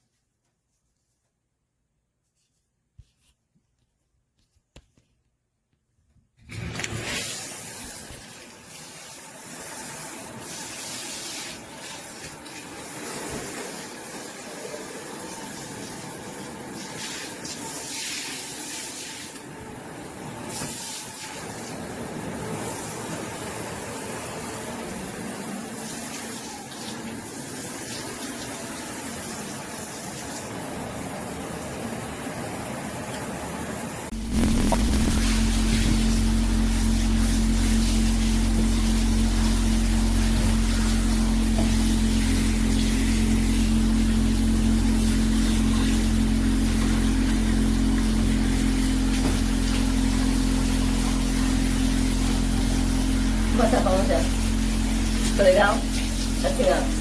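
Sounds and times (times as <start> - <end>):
water spraying from shower hose: 7.0 - 19.6, 20.4 - 30.8, 34.1 - 57.0.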